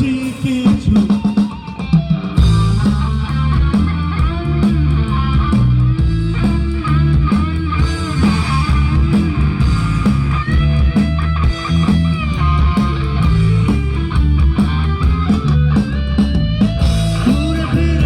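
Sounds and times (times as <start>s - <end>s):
bass guitar: 0.0s - 18.0s
drums: 0.0s - 18.0s
electric guitar lead: 0.0s - 18.0s.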